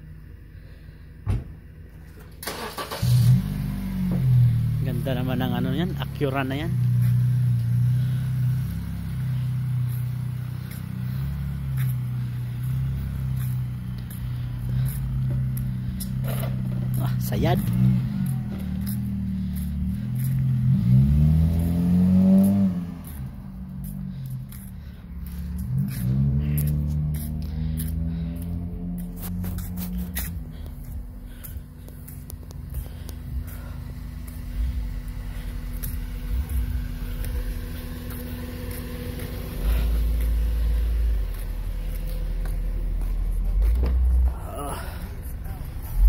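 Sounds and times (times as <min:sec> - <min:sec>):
car engine revving: 0:02.4 - 0:46.0.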